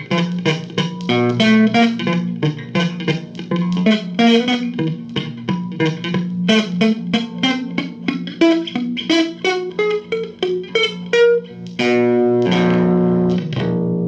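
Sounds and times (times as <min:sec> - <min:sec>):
plucked guitar notes: 0:00.0 - 0:14.0
ringing guitar chords: 0:00.0 - 0:14.0.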